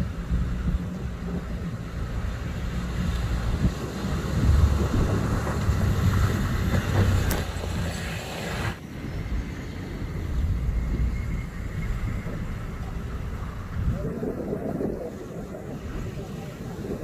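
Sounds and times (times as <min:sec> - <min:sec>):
road and wind noise: 0:00.0 - 0:17.0
vehicle engine rumble: 0:00.0 - 0:17.0.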